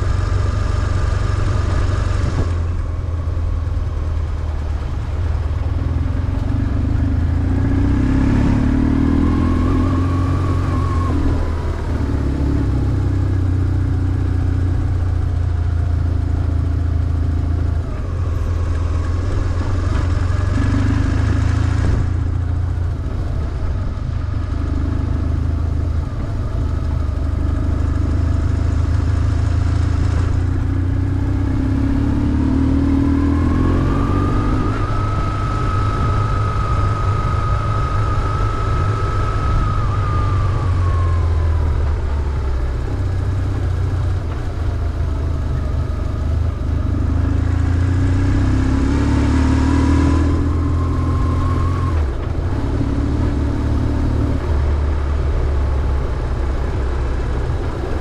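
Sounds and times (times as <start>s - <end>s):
high whine: 0.0s - 58.0s
motorcycle engine running: 0.0s - 58.0s.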